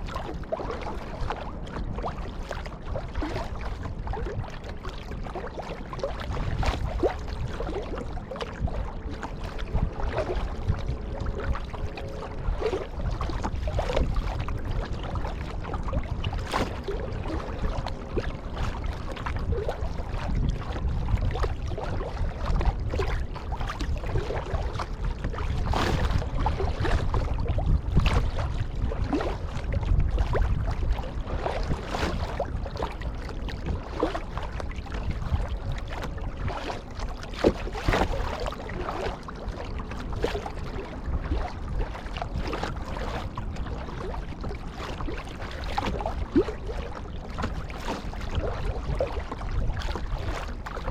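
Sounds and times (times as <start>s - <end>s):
paddle splashing in water: 0.0s - 50.9s
steady low rumble: 0.0s - 50.9s.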